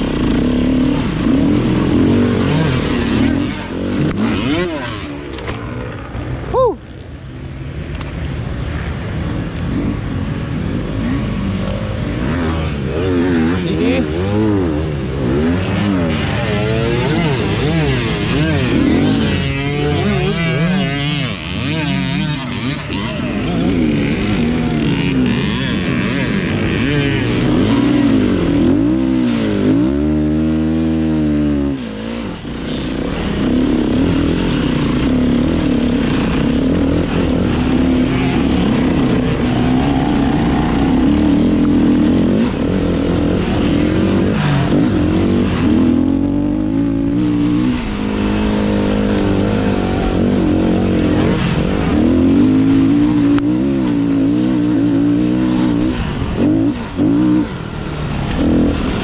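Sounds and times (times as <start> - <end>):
dirt bike engine revving: 0.0 - 6.4, 9.7 - 59.0.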